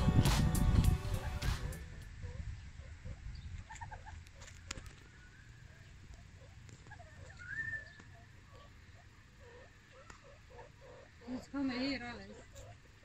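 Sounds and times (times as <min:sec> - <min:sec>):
meerkats chirping: 0:01.2 - 0:13.0.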